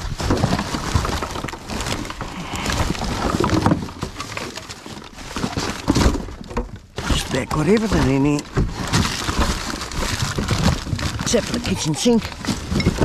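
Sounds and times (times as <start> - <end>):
bottles and boxes clattering: 0.0 - 13.0
plastic bags rustling: 0.0 - 13.0.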